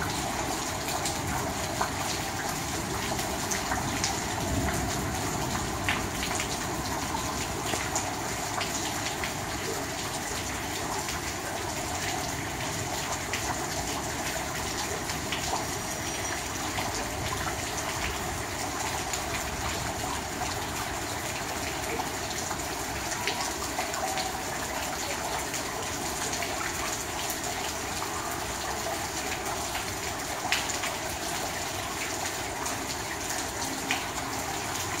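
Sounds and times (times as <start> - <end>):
rain falling on puddles: 0.0 - 35.0.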